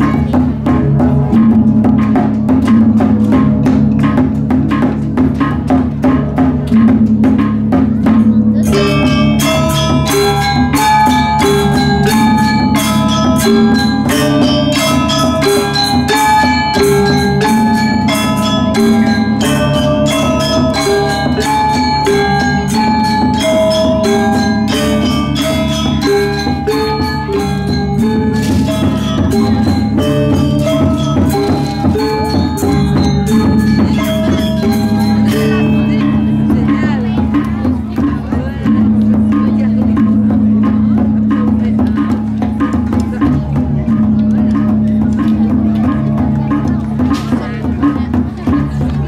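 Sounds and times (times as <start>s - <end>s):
gamelan metallophones ringing: 0.0s - 49.0s.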